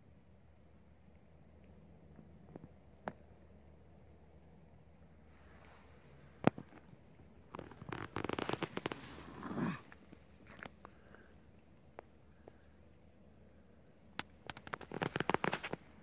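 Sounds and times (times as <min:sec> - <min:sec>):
faint insect chirping: 0:00.0 - 0:16.0.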